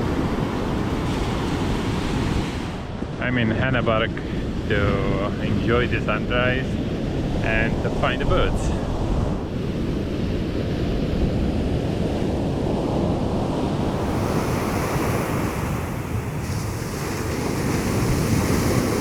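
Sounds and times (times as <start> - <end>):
ocean surf washing ashore: 0.0 - 19.0
wind buffeting microphone: 0.0 - 19.0.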